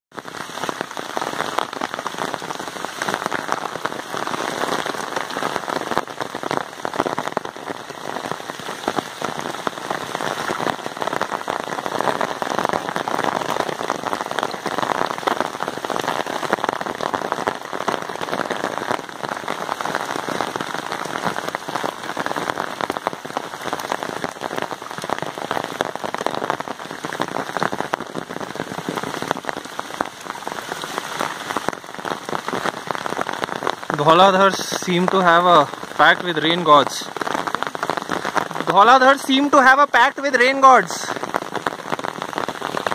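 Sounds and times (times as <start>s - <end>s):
heavy rain falling: 0.1s - 42.9s.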